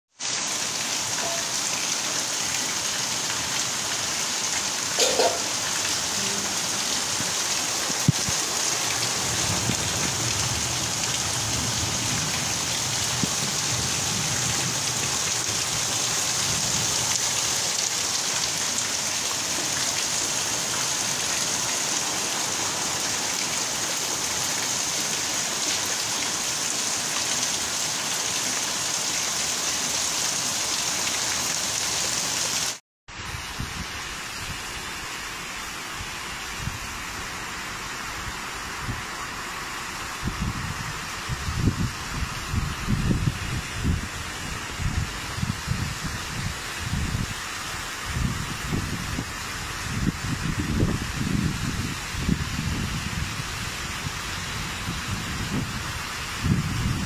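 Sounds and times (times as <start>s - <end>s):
heavy rain on a tiled roof: 0.1s - 57.0s.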